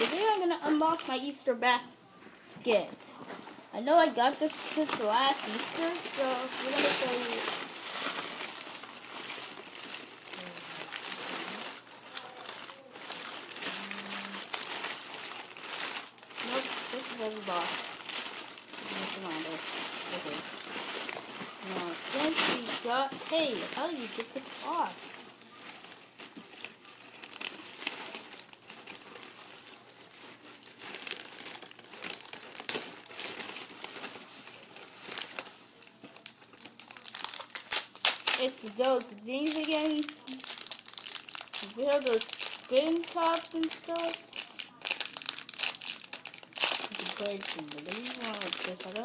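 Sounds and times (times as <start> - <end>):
plastic wrapping crinkling: 0.0 - 49.0.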